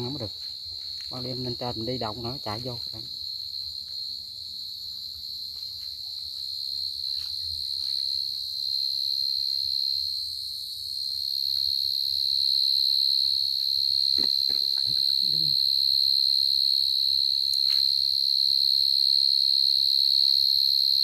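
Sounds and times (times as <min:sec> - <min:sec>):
cricket calling song: 0:00.0 - 0:21.0.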